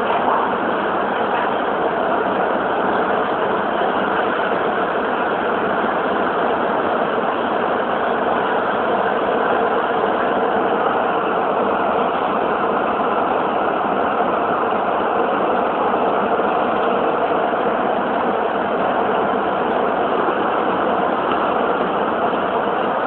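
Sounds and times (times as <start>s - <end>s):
subway train running: 0.0s - 23.0s.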